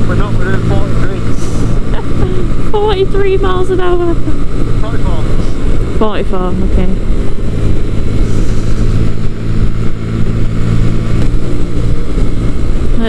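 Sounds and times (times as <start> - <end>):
motorcycle engine running steadily: 0.0 - 13.0
wind rushing: 0.0 - 13.0.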